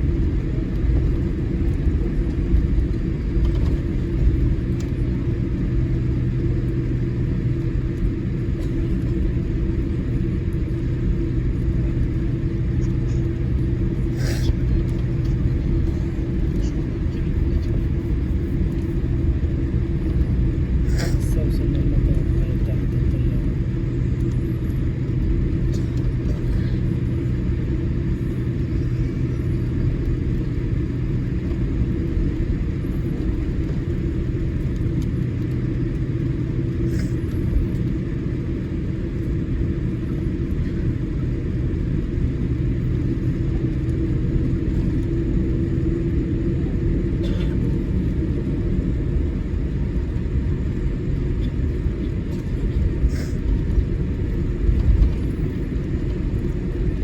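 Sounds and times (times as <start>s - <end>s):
airplane cabin rumble and hum: 0.0s - 57.0s.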